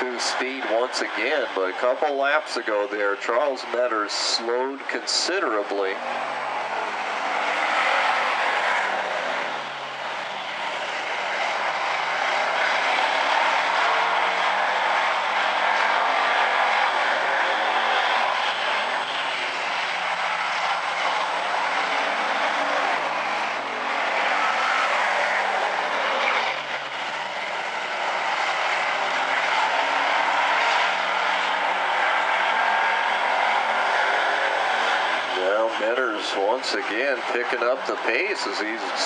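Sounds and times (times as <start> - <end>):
race car engines droning: 0.0 - 39.0.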